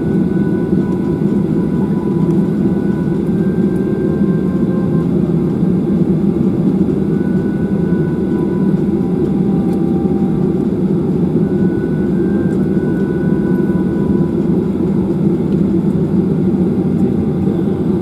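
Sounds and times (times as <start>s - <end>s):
faint engine whining tones: 0.0s - 18.0s
jet engines rumbling from cabin: 0.0s - 18.0s.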